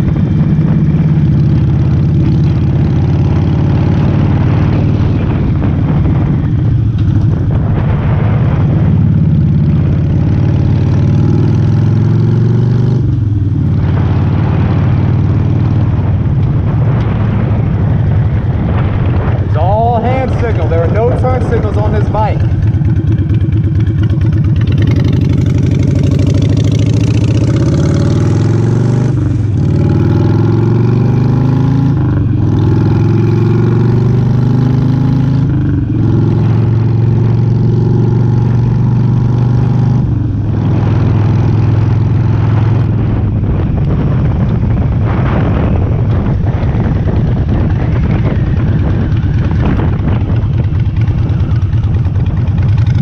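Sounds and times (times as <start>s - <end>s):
motorcycle accelerating: 0.0s - 53.0s
wind buffeting on microphone: 0.0s - 53.0s.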